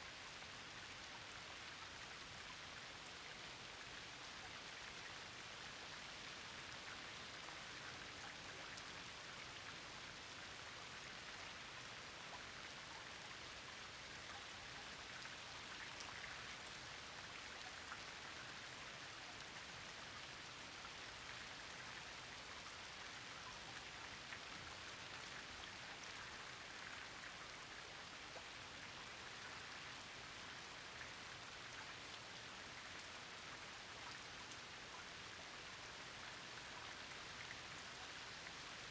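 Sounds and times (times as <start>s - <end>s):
rain falling: 0.1s - 38.9s.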